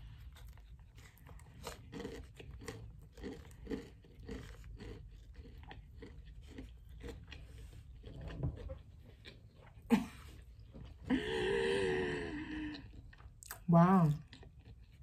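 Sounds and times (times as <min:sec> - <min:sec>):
chewing crunchy fried food: 0:00.0 - 0:15.0.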